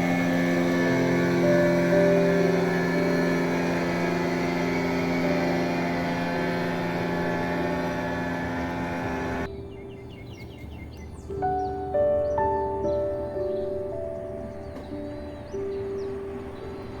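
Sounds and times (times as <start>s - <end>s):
engine running steadily: 0.0s - 11.3s, 12.4s - 17.0s
faint high chirping: 0.0s - 17.0s.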